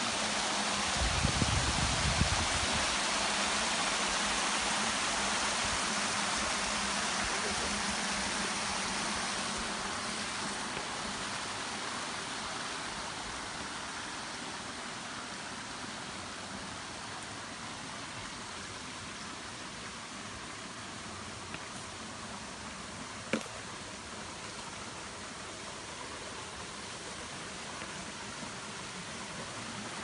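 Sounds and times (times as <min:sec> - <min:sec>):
waterfall rushing water: 0:00.0 - 0:30.0.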